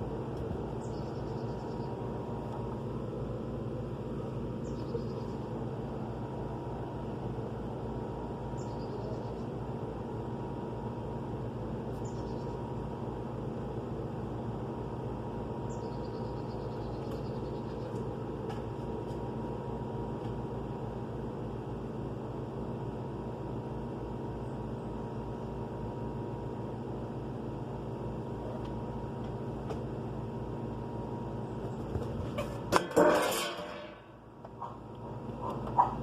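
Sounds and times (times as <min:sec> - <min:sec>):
heat pump low electrical hum: 0:00.0 - 0:36.0.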